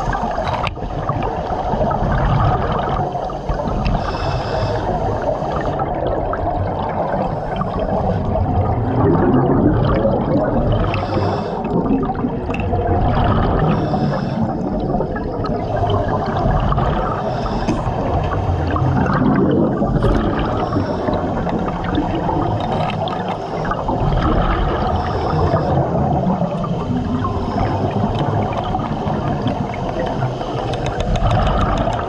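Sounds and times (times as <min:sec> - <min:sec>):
underwater air bubbles gurgling: 0:00.0 - 0:32.0.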